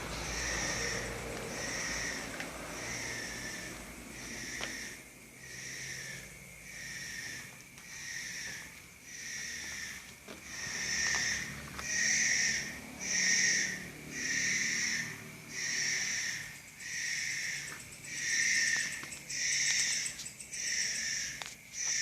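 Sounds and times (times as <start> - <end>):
rhythmic breathy hissing: 0.0 - 21.4.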